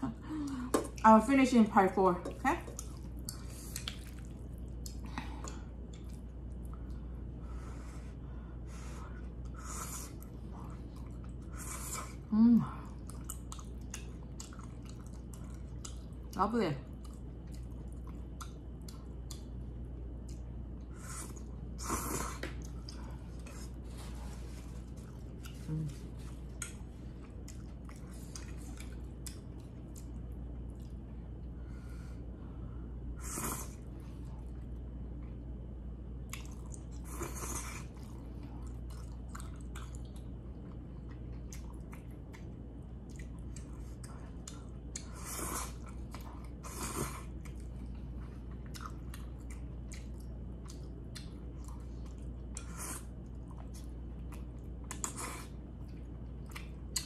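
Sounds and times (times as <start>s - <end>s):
close-up chewing: 2.6s - 7.4s, 9.1s - 31.6s, 36.2s - 57.0s.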